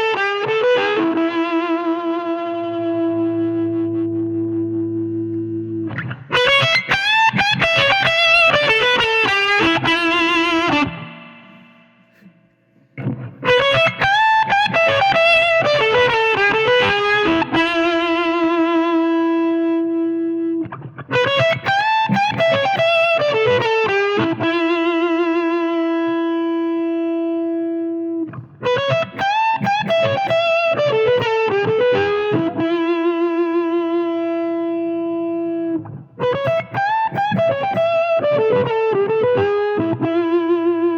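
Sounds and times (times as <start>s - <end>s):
fuzz electric guitar lead: 0.0s - 12.4s, 13.0s - 40.9s.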